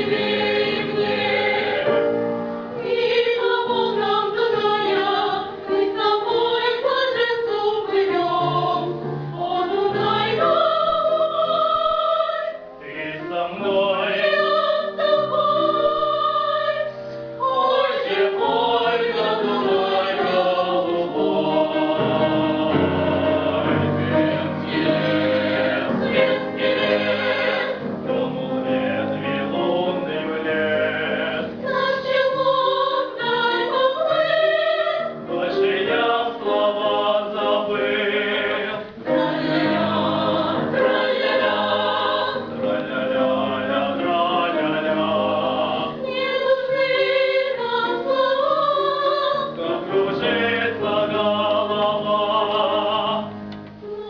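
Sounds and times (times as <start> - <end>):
vocal ensemble singing: 0.0 - 54.0.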